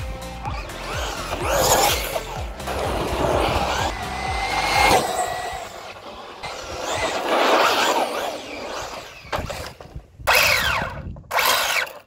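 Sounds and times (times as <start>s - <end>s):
electric motor whine: 0.5s - 12.0s
tyre noise on asphalt: 0.5s - 12.0s.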